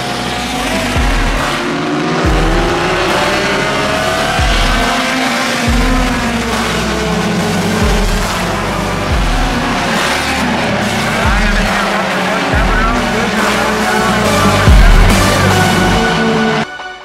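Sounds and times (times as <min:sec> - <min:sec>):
bass pulse from music: 0:00.0 - 0:16.6
race car engines: 0:00.0 - 0:16.7.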